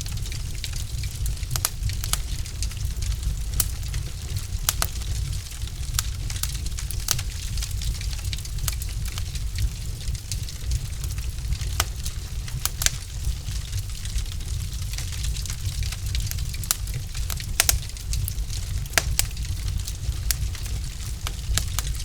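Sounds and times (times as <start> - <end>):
burning logs crackling and popping: 0.0 - 22.0
fire rumbling in a fireplace: 0.0 - 22.0.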